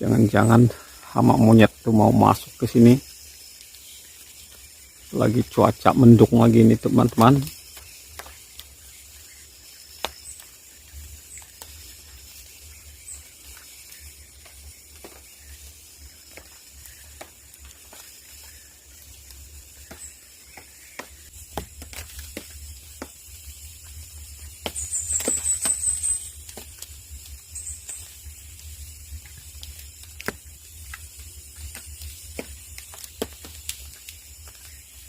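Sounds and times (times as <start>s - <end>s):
light rain hiss: 0.0s - 35.0s
raindrops ticking: 0.0s - 35.0s.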